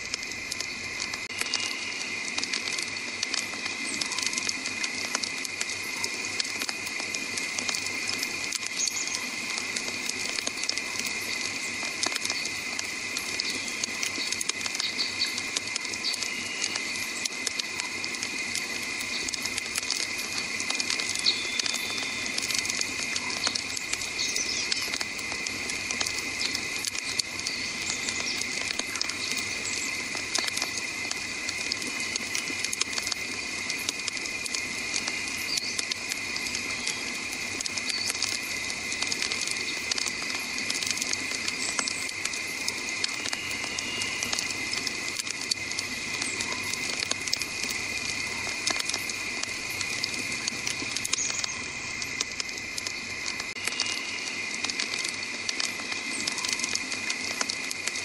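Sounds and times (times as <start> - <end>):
campfire crackling: 0.0 - 58.0
fire hissing: 0.0 - 58.0.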